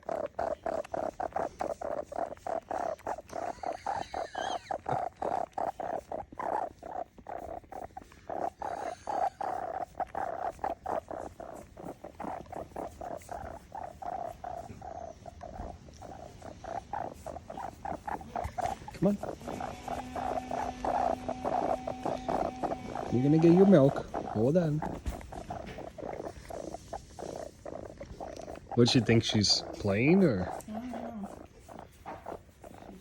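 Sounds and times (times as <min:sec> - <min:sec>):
kitten purring: 0:00.0 - 0:33.0.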